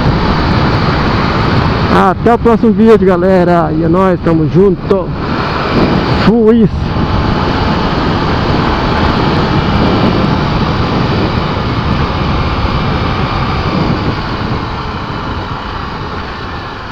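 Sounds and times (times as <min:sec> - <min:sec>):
motorcycle engine: 0:00.0 - 0:16.9
wind rushing on microphone: 0:00.0 - 0:16.9.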